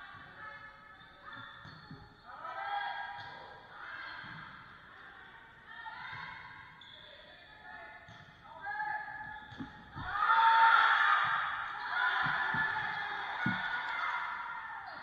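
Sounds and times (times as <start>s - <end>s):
girls shouting in a gymnasium: 0.0s - 15.0s.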